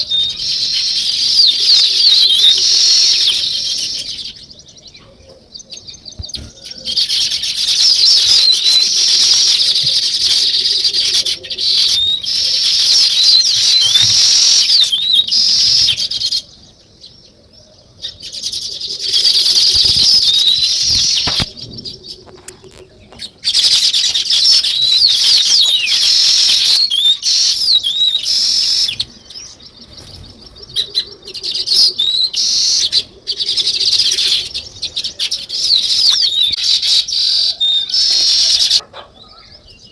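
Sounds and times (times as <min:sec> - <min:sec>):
flock of birds chattering: 0:00.0 - 0:39.9.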